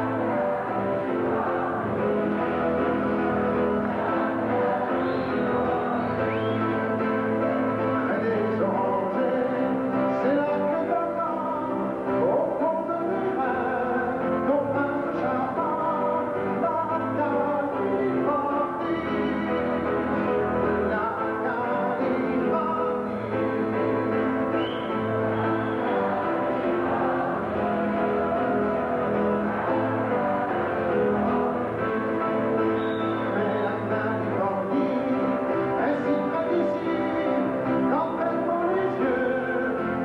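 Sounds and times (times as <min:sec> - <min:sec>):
acoustic guitar: 0:00.0 - 0:40.0
man singing into microphone: 0:04.1 - 0:26.4, 0:27.6 - 0:40.0.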